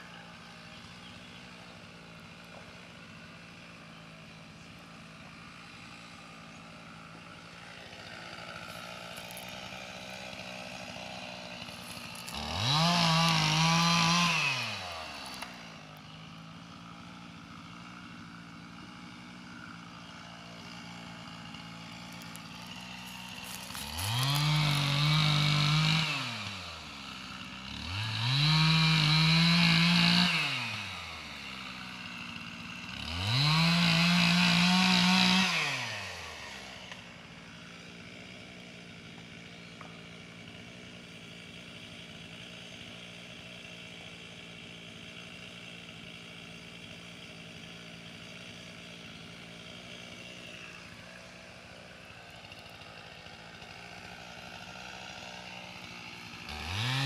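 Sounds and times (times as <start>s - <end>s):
chainsaw idling and revving: 0.0s - 57.0s.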